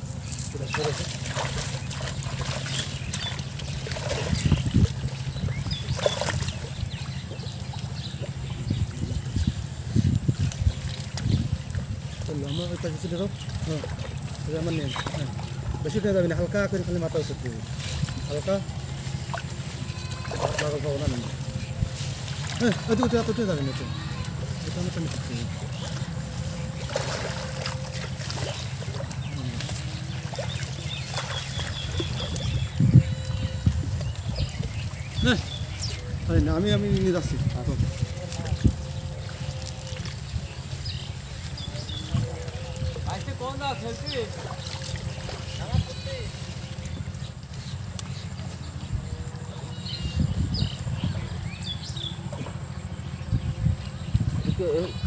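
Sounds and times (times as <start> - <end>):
steady low rumble: 0.0 - 20.3, 21.1 - 55.0
water sloshing and splashing: 0.0 - 55.0.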